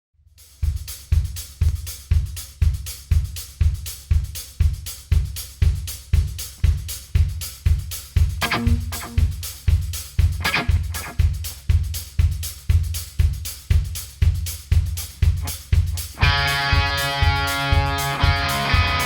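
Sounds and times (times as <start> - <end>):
hi-hat and cymbal strokes: 0.2 - 19.0.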